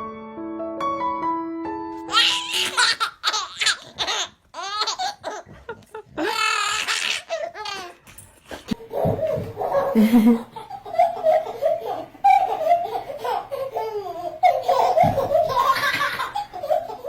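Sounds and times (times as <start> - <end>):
child laughing: 2.1 - 8.0, 8.7 - 17.0.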